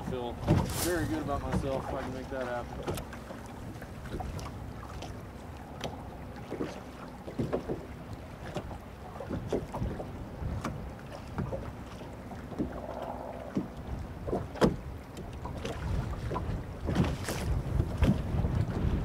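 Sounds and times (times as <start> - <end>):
waves slapping against boat hull: 0.0 - 19.0
wind rumble on microphone: 0.0 - 19.0.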